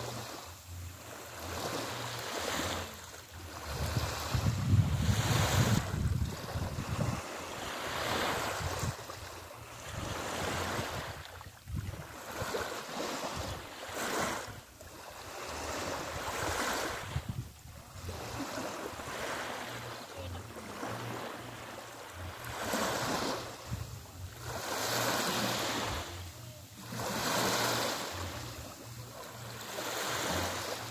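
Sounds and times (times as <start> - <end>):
small waves washing on sand: 0.0 - 30.9.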